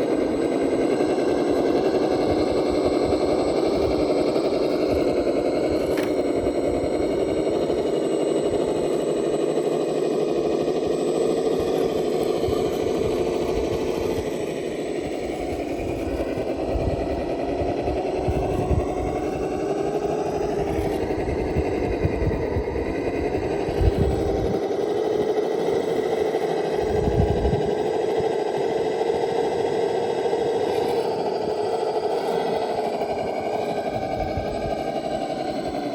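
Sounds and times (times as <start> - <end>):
electric motor and gearbox whining: 0.0 - 35.9.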